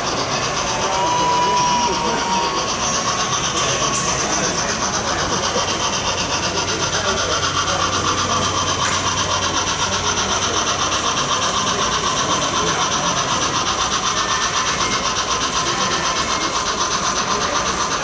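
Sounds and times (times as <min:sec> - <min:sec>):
model train motor whirring: 0:00.0 - 0:18.0.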